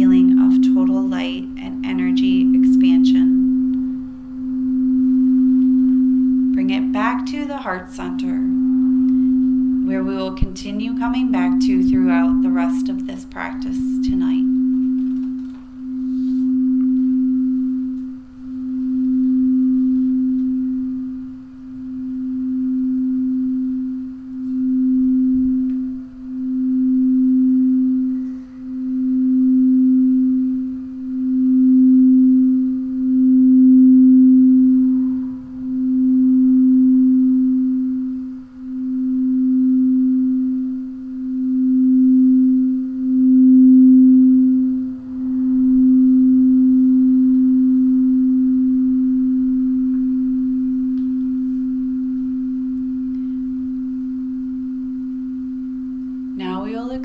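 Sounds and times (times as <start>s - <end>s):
singing bowl tone: 0.0s - 57.0s.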